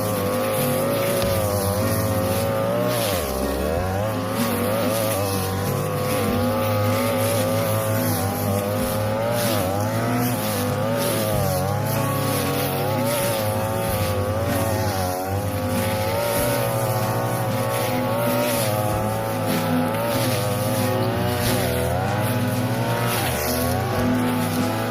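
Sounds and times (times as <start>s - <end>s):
brush cutter running at high speed: 0.0s - 24.9s.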